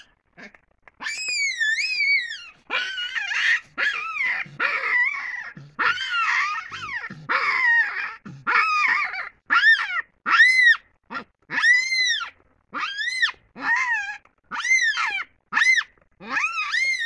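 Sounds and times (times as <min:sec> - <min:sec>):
baboon screaming: 0:00.0 - 0:17.0.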